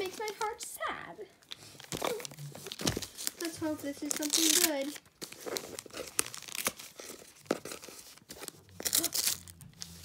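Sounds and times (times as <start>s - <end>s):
wrapping paper tearing: 0.0s - 0.6s, 1.5s - 10.0s.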